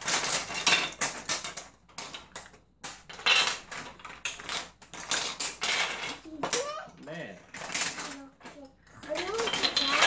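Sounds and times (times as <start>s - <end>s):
plastic bricks clattering on table: 0.0s - 10.0s.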